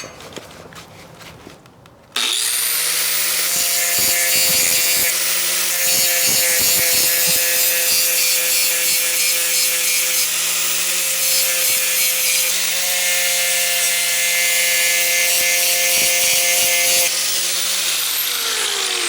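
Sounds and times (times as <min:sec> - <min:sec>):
angle grinder grinding steel: 0:02.2 - 0:19.0.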